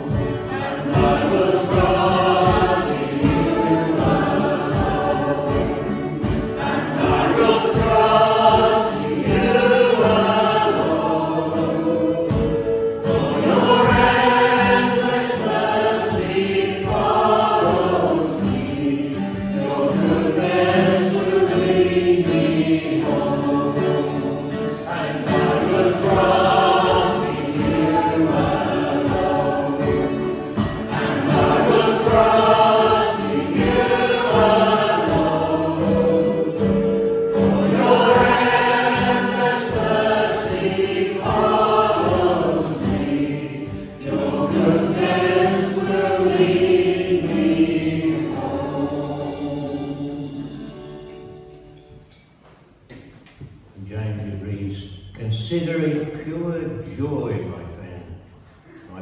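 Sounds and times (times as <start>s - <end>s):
group singing a hymn: 0.0s - 51.8s
instrumental music: 0.0s - 53.7s.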